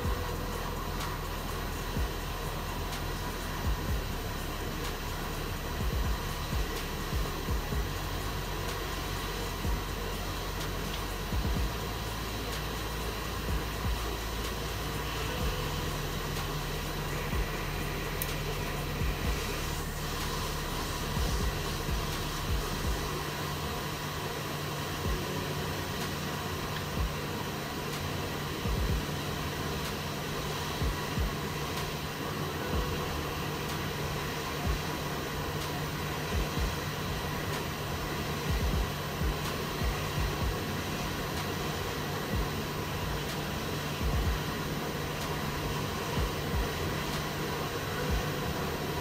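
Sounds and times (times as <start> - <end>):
constant low hum: 0.0 - 49.0
hot air station blowing: 0.0 - 49.0.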